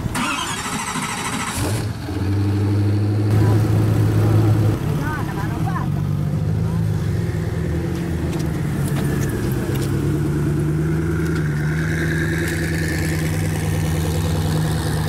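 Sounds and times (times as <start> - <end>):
car engine at low revs: 1.4 - 15.0.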